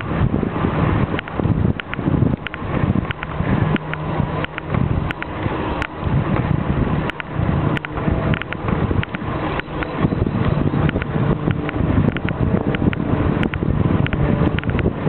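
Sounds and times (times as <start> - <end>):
low rumble: 0.0 - 15.0
wind buffeting microphone: 0.0 - 15.0
sharp clicks and rattles: 1.1 - 15.0.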